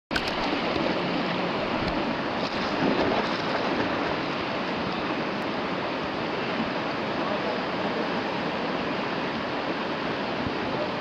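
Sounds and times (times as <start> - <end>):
whitewater rushing: 0.1 - 11.0.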